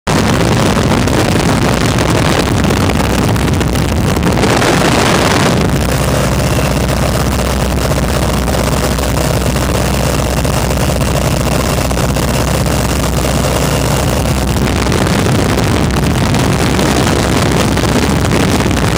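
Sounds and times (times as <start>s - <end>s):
plane engine humming: 0.1s - 18.9s
wind rushing onto microphone: 0.1s - 18.9s.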